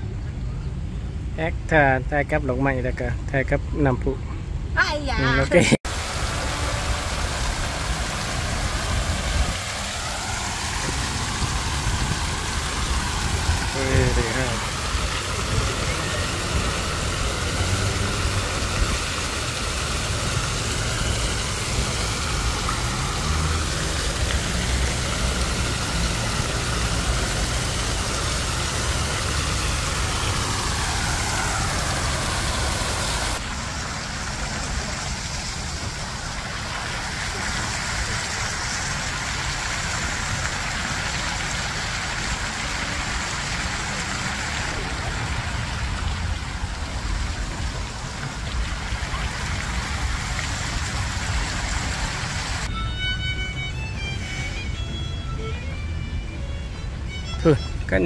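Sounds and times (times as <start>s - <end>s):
fountain water splashing: 4.8s - 58.0s.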